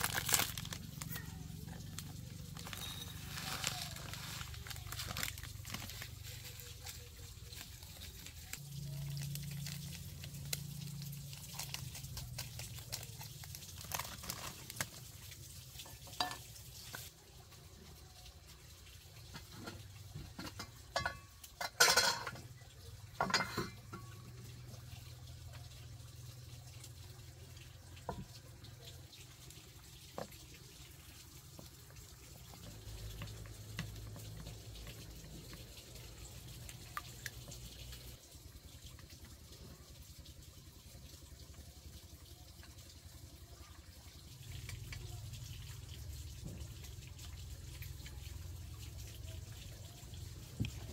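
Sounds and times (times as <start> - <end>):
water pouring into a bowl: 0.0 - 50.9.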